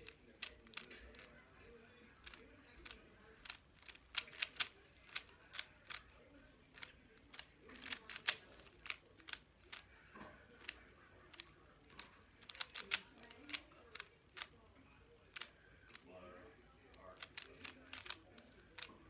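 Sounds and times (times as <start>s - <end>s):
speed cube clicking: 0.0s - 1.4s, 2.2s - 6.1s, 6.7s - 9.9s, 10.6s - 16.0s, 16.9s - 19.0s.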